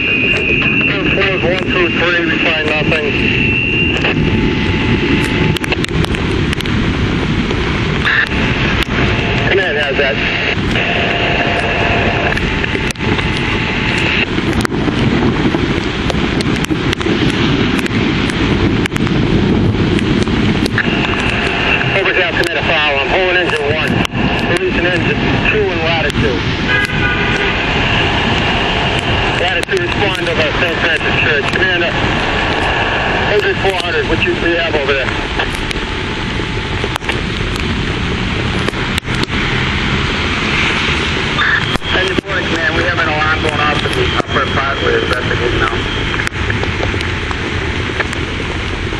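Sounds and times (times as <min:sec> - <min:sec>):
heavy rain: 0:00.0 - 0:48.9
wind gusting over microphone: 0:00.0 - 0:48.9.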